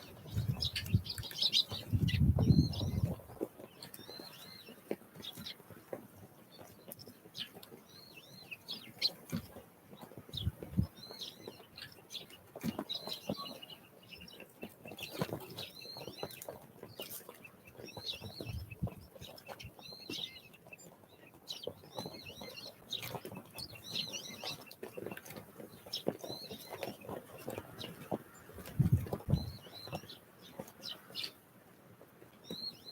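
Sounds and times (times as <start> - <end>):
small birds chirping: 0.0 - 31.6, 32.3 - 32.9.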